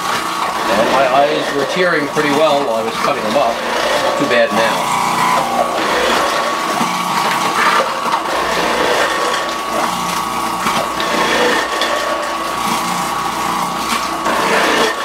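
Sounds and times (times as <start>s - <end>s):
food processor motor whine: 0.0s - 15.0s
onion being grated: 0.0s - 15.0s.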